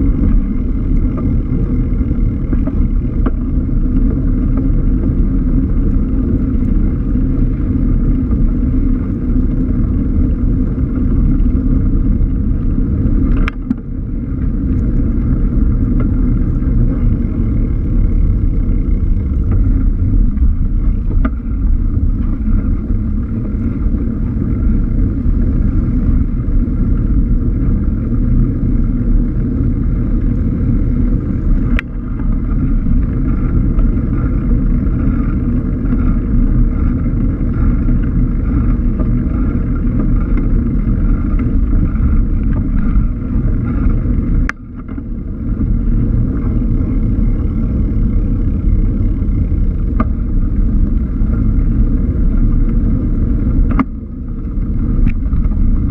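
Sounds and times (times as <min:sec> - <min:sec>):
wind and road rumble: 0:00.0 - 0:55.9.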